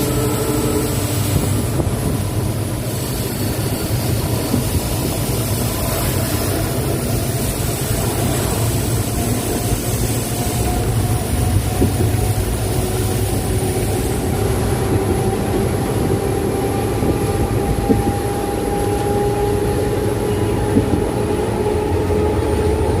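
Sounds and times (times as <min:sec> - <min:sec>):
diesel locomotive rumbling: 0:00.0 - 0:23.0.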